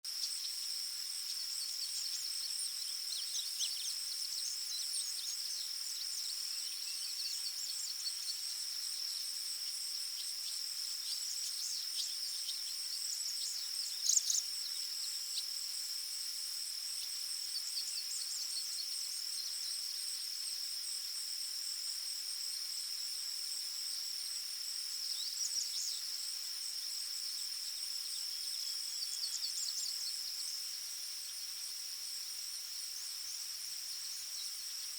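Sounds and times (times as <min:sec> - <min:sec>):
high-pitched insect trill: 0:00.1 - 0:34.9.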